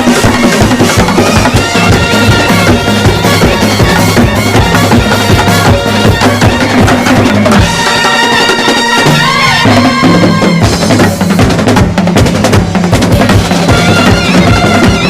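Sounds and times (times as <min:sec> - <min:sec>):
wind instruments playing melody: 0:00.0 - 0:11.0, 0:13.1 - 0:15.0
bass and snare drumming: 0:00.0 - 0:15.0.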